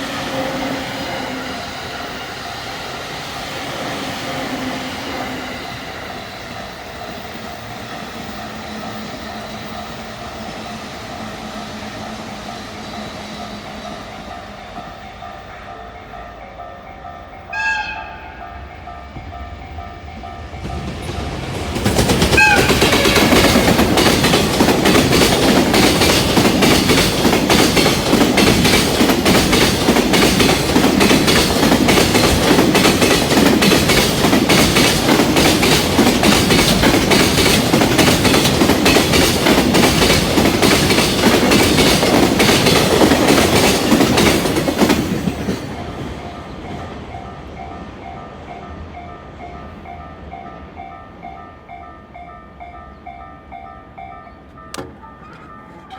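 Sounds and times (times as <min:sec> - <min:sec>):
train wheels rumbling: 0:00.0 - 0:55.9
rail joint clicking: 0:05.3 - 0:55.9.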